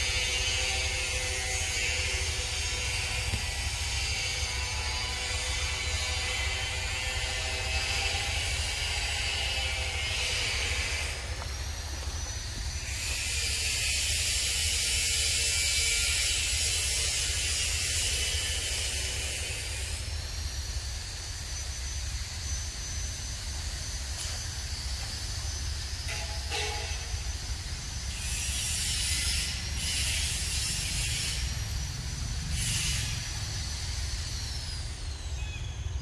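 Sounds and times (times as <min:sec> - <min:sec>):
cicadas buzzing: 0:00.0 - 0:36.0.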